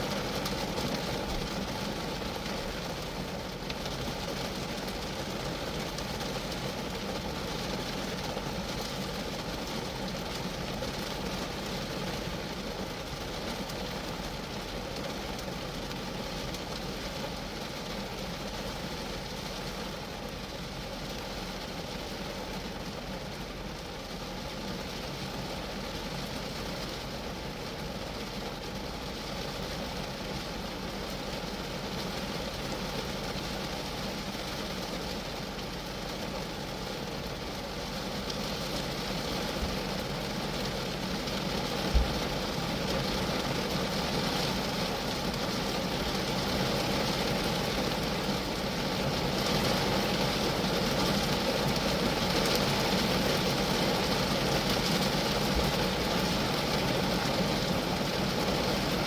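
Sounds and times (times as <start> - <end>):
rain falling on a car: 0.0 - 59.0.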